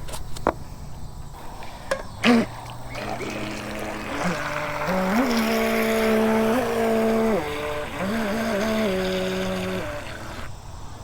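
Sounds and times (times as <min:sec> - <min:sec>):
toy boat motor whining: 0:01.3 - 0:10.6.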